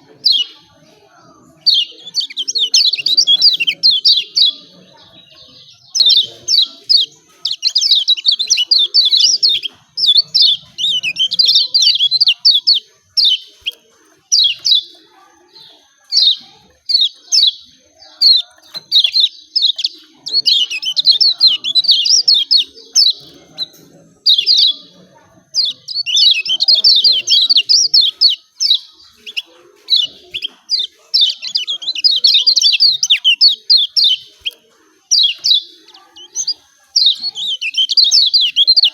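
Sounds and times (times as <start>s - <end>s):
bird chirping rapidly: 1.5s - 38.9s.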